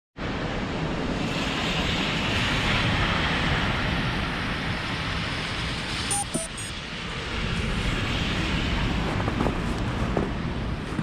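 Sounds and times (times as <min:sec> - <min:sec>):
wind rumbling on microphone: 0:00.2 - 0:11.0.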